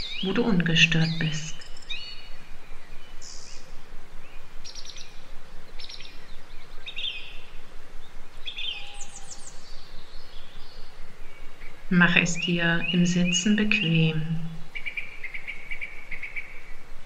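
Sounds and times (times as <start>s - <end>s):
songbirds chirping: 0.0s - 17.0s
steady background hiss: 0.0s - 17.0s.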